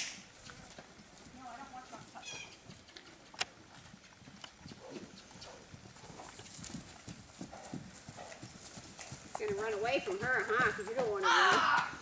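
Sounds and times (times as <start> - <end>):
horse hooves trotting on grass: 0.1 - 12.0.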